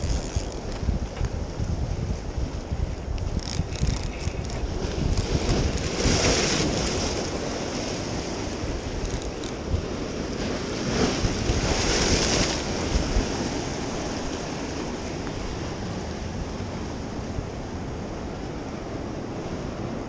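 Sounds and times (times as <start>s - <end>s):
ocean surf breaking on rocks: 0.0s - 20.0s
wind buffeting microphone: 0.0s - 20.0s.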